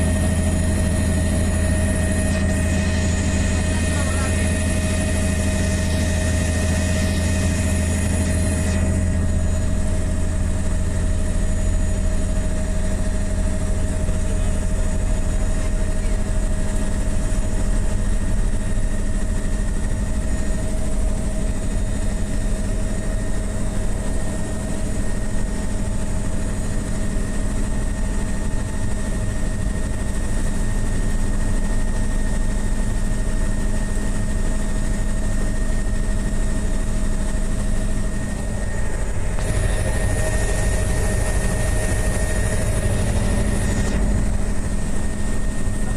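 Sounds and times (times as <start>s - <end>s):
helicopter engine and rotor drone: 0.0s - 45.9s
helicopter whine: 0.0s - 45.9s.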